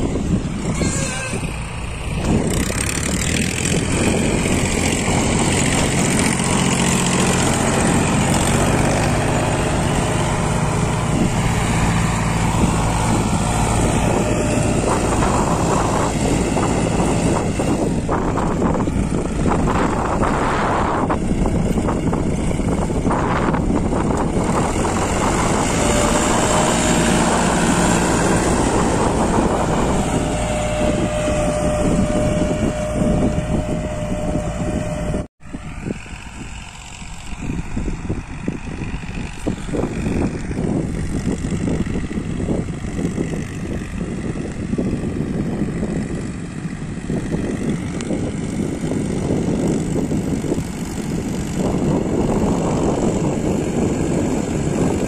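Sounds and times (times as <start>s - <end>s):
tractor diesel engines under load: 0.0s - 55.0s.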